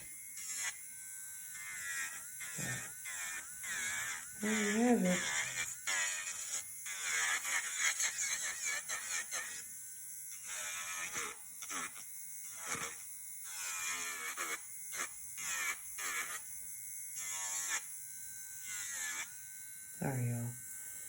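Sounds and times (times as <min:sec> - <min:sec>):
electric nail drill whining: 0:00.0 - 0:21.0.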